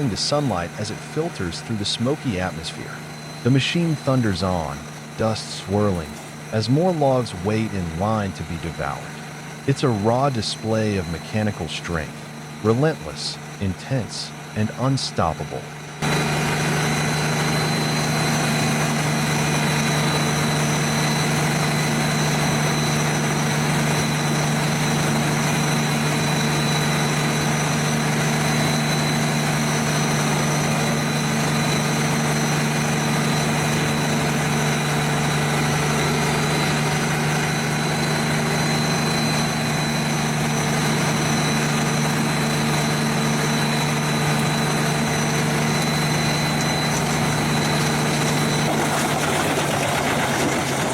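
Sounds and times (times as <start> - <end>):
wood chipper engine running: 0.0 - 50.9.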